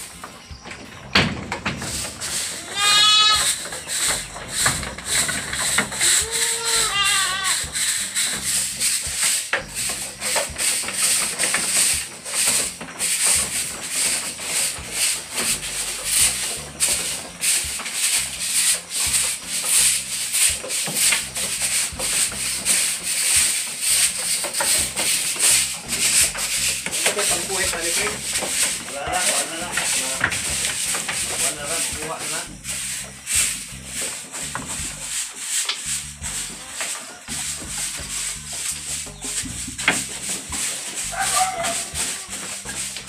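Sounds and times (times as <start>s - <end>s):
broom sweeping wooden floor: 0.0s - 43.0s.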